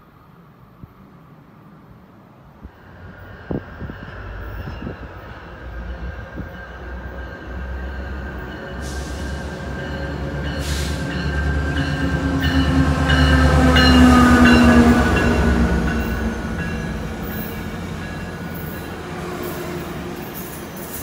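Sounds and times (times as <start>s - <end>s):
diesel locomotive engine hum: 0.0s - 21.0s.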